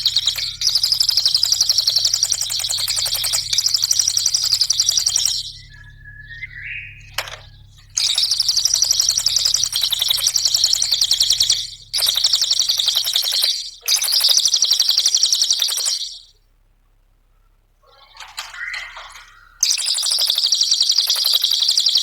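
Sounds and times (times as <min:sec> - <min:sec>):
songbird chattering trill: 0:00.0 - 0:16.4, 0:17.9 - 0:22.0.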